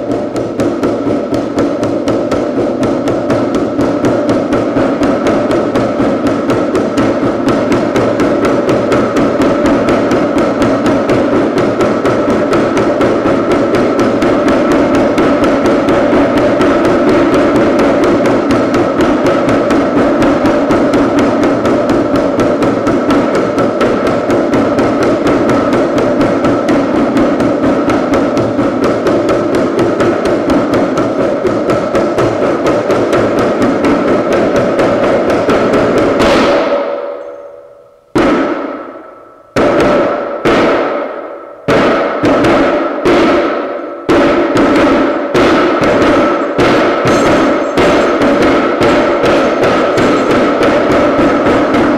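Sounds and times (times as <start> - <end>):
frame drum roll and strokes: 0.0 - 51.9.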